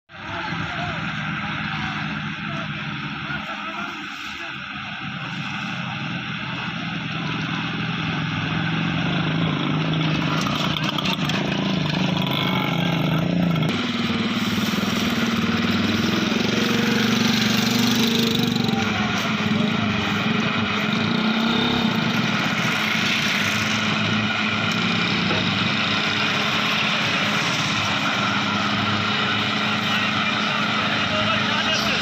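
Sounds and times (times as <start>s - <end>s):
tractor diesel engine running: 0.1s - 32.0s.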